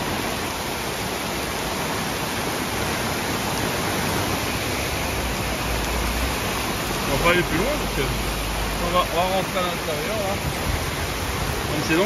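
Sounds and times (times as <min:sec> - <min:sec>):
floodwater rushing: 0:00.0 - 0:12.0
torrential rain: 0:00.0 - 0:12.0.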